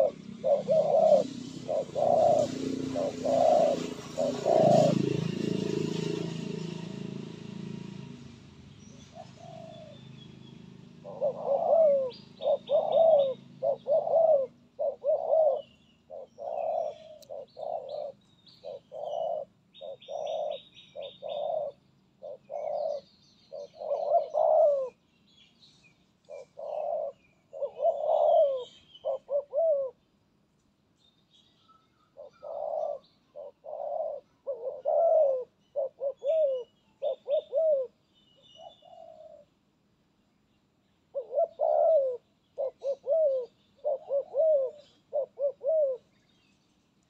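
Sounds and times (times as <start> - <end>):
small birds chirping: 0.0 - 5.0, 8.5 - 39.5, 40.1 - 47.0
doves cooing: 0.0 - 6.7, 9.0 - 25.0, 26.3 - 30.0, 32.1 - 38.0, 38.6 - 39.5, 41.1 - 46.2.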